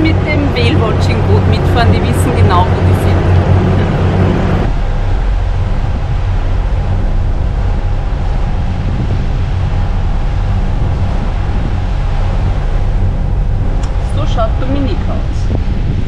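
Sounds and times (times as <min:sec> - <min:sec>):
boat engine rumble: 0:00.0 - 0:16.0
wind rushing over microphone: 0:00.0 - 0:16.0.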